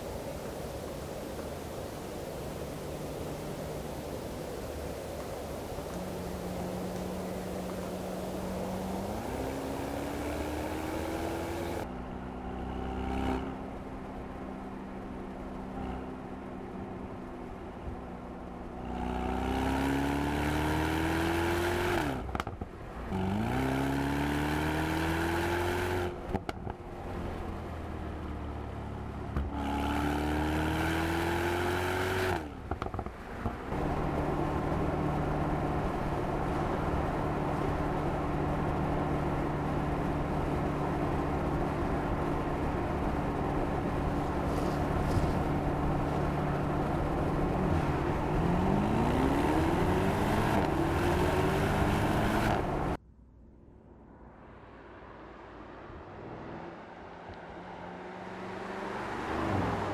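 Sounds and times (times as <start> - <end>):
car engine exhaust accelerating: 0.0 - 54.0.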